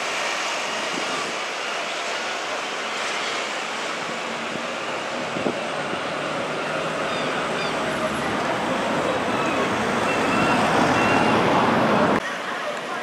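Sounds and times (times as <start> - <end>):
street traffic engine and tyre noise: 0.0 - 13.0.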